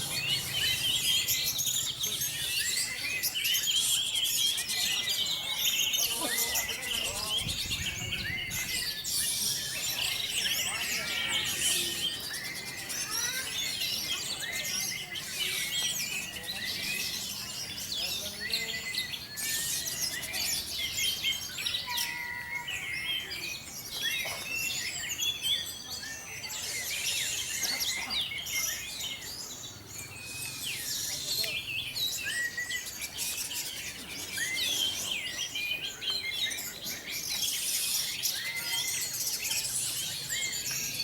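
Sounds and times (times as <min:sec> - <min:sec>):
chorus of songbirds singing: 0:00.0 - 0:41.0.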